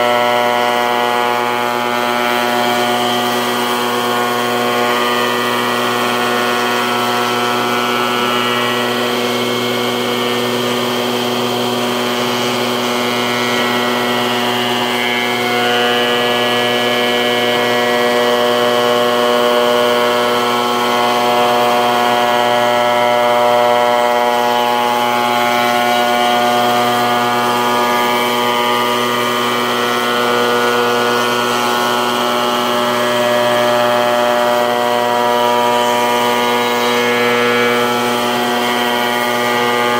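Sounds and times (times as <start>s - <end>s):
shaper whining while milling wood: 0.0s - 39.9s.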